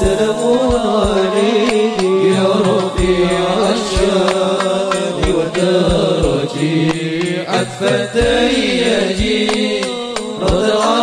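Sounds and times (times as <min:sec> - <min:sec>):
drum strokes: 0:00.0 - 0:11.0.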